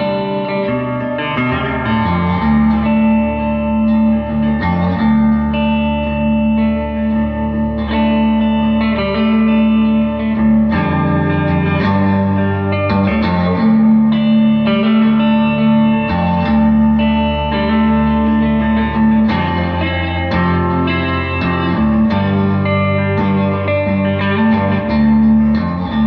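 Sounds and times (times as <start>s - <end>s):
clean electric guitar chords: 0.0s - 26.0s.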